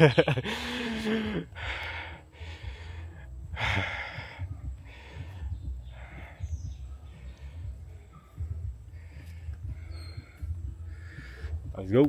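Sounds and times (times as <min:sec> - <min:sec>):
person breathing hard: 0:00.3 - 0:11.7.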